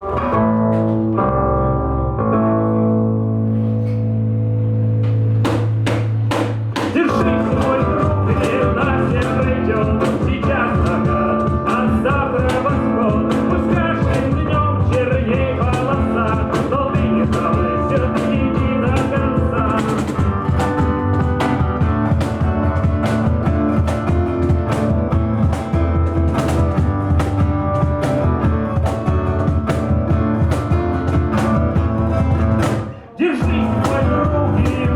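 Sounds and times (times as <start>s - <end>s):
band with steady drum beat: 5.4s - 34.9s.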